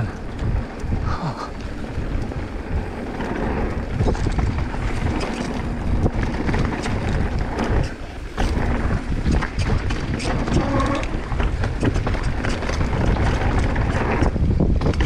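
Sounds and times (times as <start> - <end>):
bike rattling and clicking: 0.0 - 15.0
tyres rumbling on trail: 0.0 - 15.0
wind buffeting microphone: 0.0 - 15.0.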